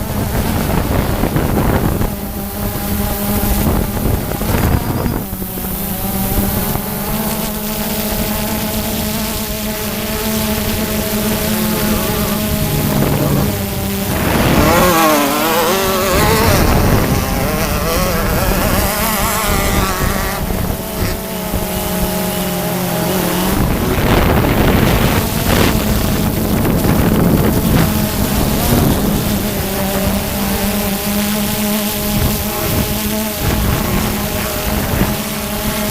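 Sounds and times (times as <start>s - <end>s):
buggy engines revving: 0.0s - 35.9s
drone propellers buzzing: 0.0s - 35.9s
wind on microphone: 0.0s - 35.9s.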